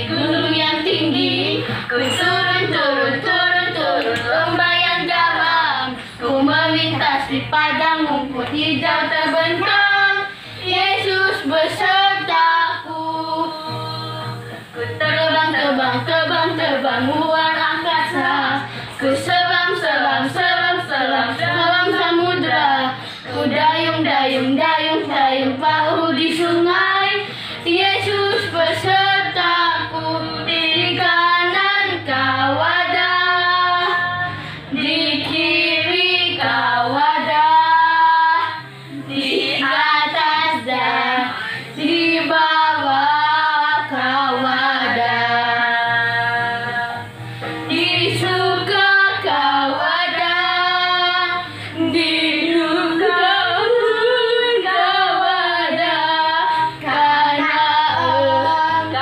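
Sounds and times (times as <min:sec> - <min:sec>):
children singing: 0:00.0 - 0:14.3, 0:15.0 - 0:47.0, 0:47.7 - 0:59.0.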